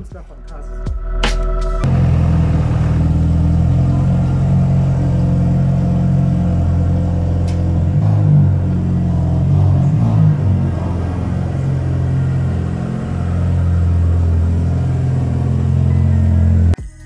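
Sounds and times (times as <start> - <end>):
car engine idling: 0.2 - 16.8.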